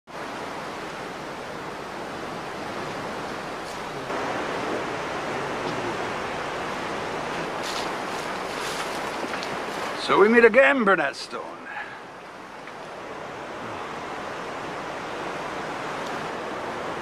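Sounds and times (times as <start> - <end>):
steady rushing noise: 0.1 - 17.0.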